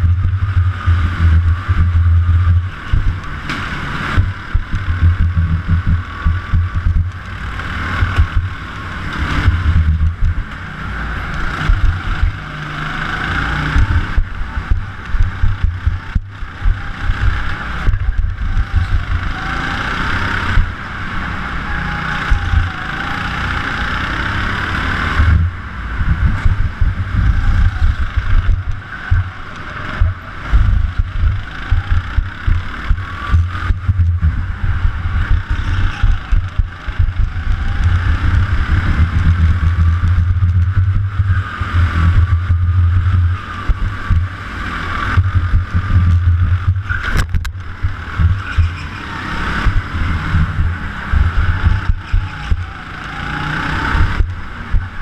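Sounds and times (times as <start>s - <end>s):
heavy low rumble: 0.0s - 19.6s, 20.4s - 21.5s, 24.9s - 52.7s, 53.9s - 55.0s
go-kart engine: 0.0s - 55.0s.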